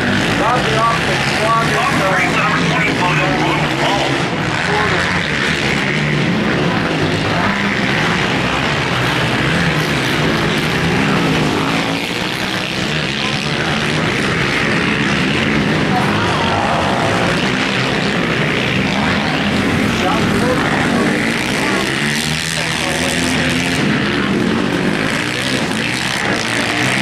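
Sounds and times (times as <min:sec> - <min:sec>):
quad engines revving: 0:00.0 - 0:27.0.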